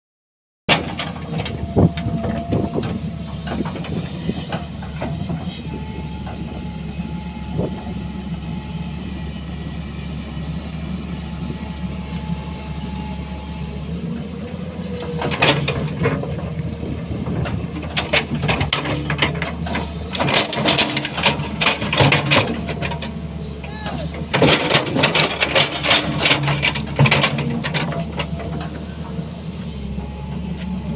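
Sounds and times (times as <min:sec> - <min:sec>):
excavator diesel engine running: 0:00.7 - 0:30.9.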